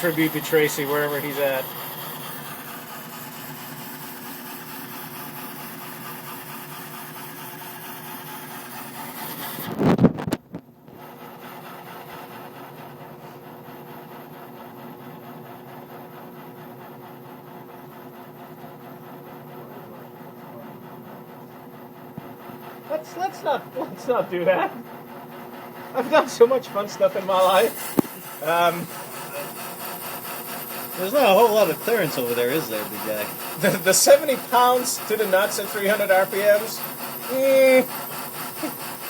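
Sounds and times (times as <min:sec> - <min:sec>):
lathe humming: 0:00.0 - 0:10.3, 0:10.9 - 0:39.0.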